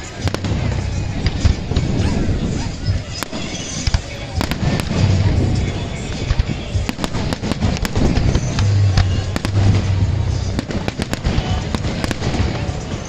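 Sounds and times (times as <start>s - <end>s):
continuous low rumble: 0.0s - 13.0s
fireworks bangs and crackles: 0.0s - 13.0s.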